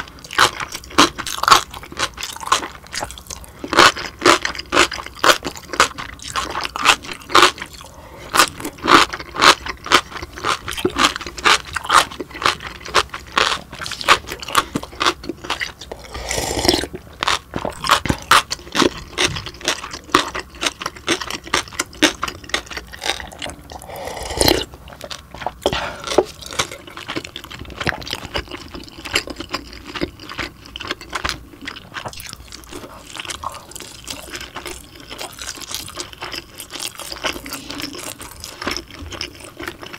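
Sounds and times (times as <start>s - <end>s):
crunchy wet chewing: 0.0s - 39.9s.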